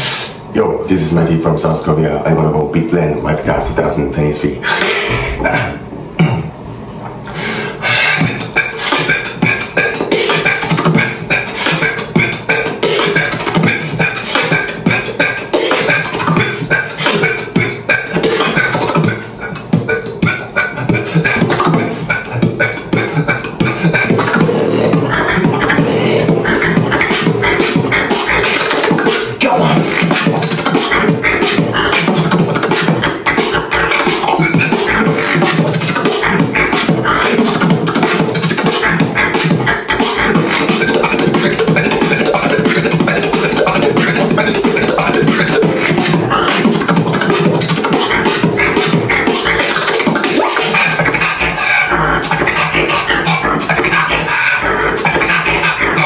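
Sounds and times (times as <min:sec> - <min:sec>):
held vocal tones: 0:00.0 - 0:56.0
person beatboxing: 0:00.0 - 0:56.0.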